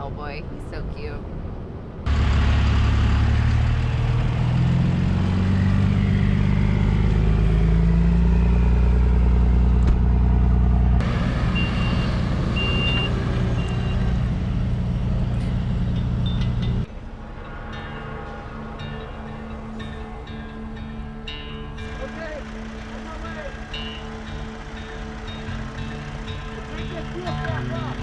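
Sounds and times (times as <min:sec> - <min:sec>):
diesel truck engine running: 0:02.1 - 0:28.0.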